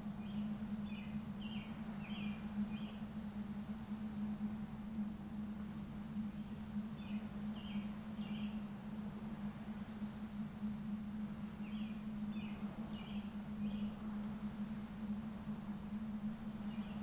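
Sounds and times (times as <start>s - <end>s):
background hiss: 0.0s - 17.0s
low hum: 0.0s - 17.0s
songbird chirping: 0.0s - 17.0s.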